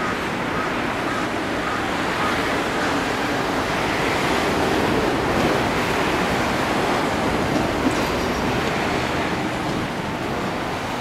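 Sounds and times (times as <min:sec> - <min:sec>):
bus passing: 0:00.0 - 0:11.0
streetcar running: 0:00.0 - 0:11.0.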